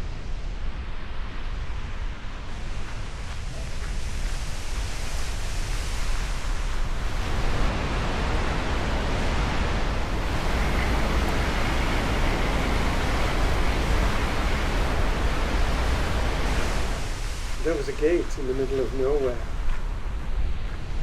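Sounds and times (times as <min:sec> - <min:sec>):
rushing waterfall: 0:00.0 - 0:21.0.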